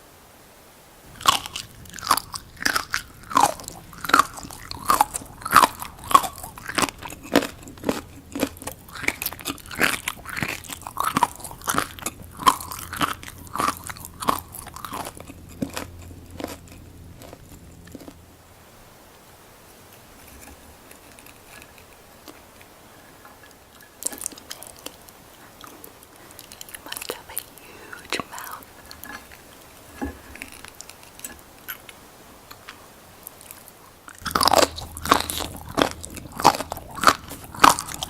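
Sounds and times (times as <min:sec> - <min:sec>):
chewing crunchy seaweed: 0:01.1 - 0:18.4, 0:23.4 - 0:38.0.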